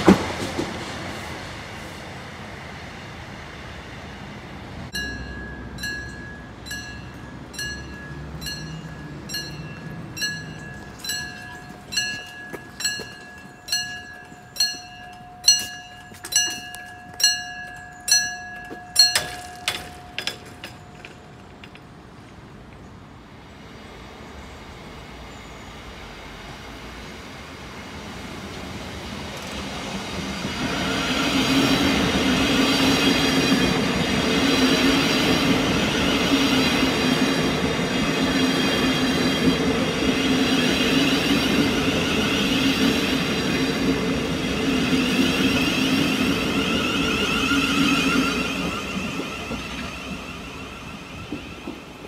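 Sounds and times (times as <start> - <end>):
electric train passing with whine: 0.0 - 52.0.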